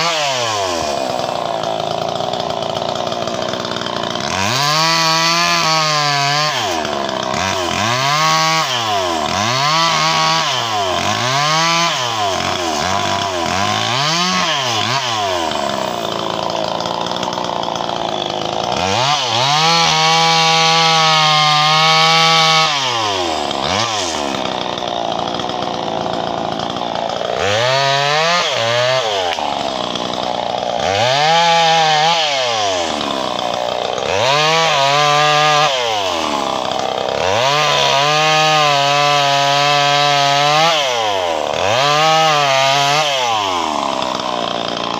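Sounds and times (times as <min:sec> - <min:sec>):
chainsaw revving and cutting: 0:00.0 - 0:44.9.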